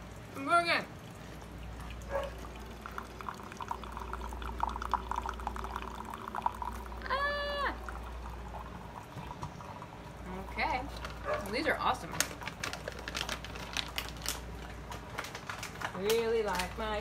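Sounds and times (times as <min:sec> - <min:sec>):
coffee maker gurgling: 0:00.0 - 0:17.0.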